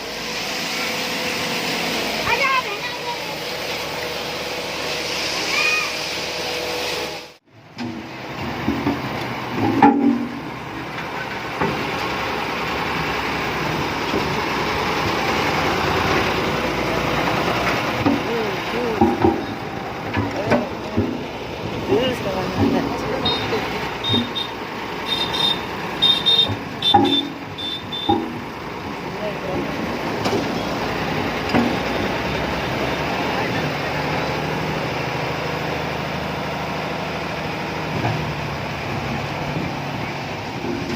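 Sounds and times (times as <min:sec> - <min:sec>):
construction machine engine running: 0:00.0 - 0:40.9.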